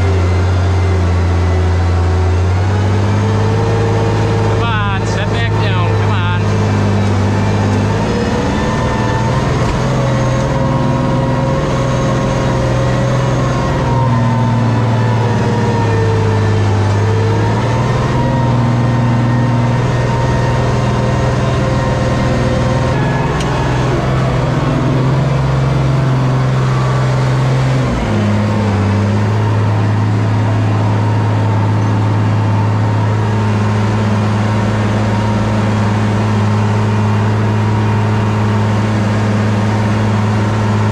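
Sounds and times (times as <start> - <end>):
tractor diesel engine under load: 0.0 - 40.9.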